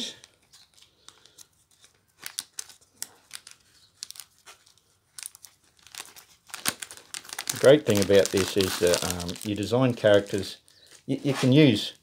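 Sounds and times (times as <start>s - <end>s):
plastic bag crinkling and tearing: 0.0s - 11.9s.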